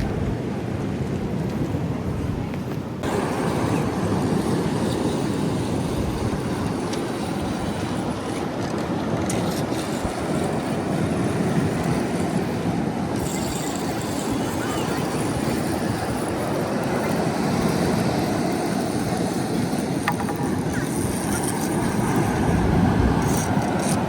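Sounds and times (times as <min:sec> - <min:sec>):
ocean surf: 0:00.0 - 0:24.0
wind against microphone: 0:00.0 - 0:24.0.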